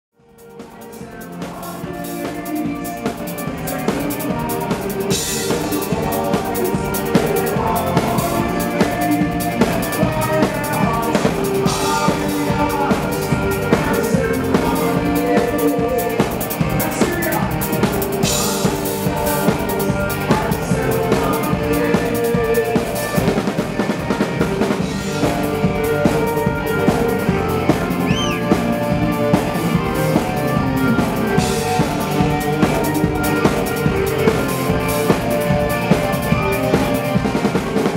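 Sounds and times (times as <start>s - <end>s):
live rock band playing: 0.2s - 37.9s.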